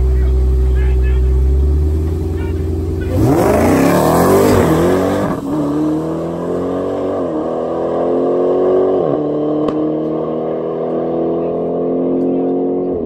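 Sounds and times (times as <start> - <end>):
car engine accelerating through gears: 1.4 - 13.0.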